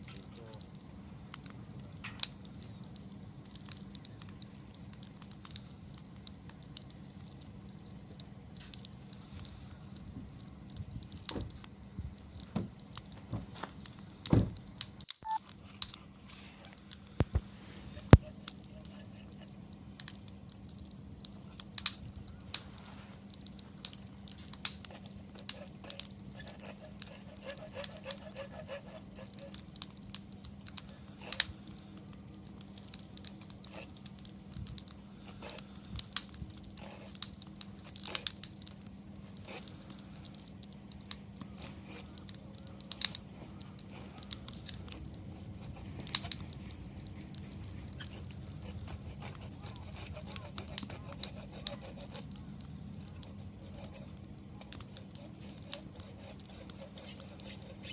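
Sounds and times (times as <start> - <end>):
campfire crackling: 0.0 - 57.9
faint low hum: 0.0 - 57.9.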